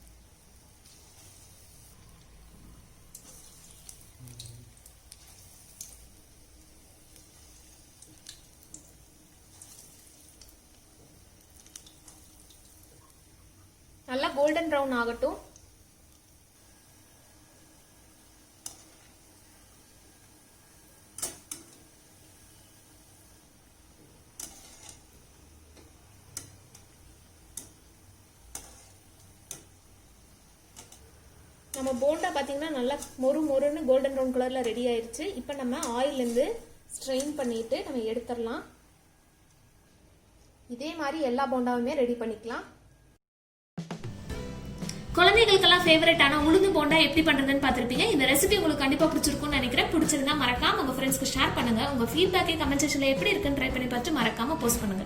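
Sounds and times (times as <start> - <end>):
food deep-frying in hot oil: 0.0 - 40.1, 44.9 - 55.0.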